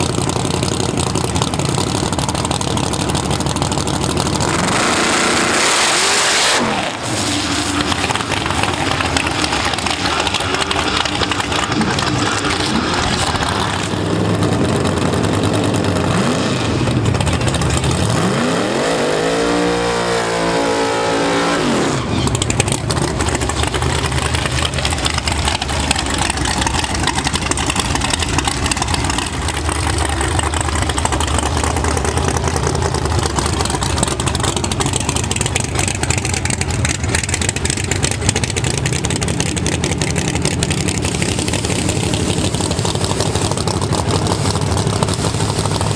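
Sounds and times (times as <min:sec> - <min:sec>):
racing engine revving: 0:02.9 - 0:45.9.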